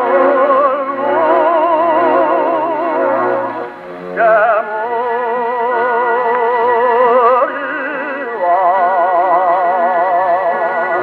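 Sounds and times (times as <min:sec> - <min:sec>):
tenor singing with orchestra: 0:00.0 - 0:11.0.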